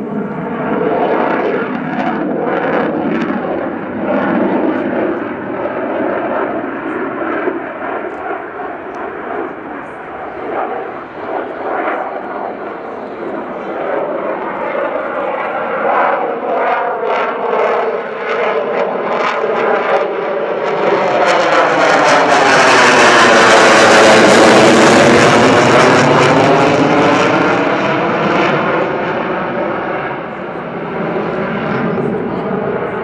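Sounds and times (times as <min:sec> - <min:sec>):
jet engine roaring in flyby: 0:00.0 - 0:33.0.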